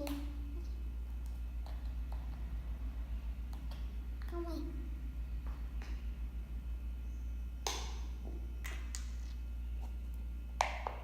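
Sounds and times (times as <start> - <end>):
low hum: 0.0 - 10.9.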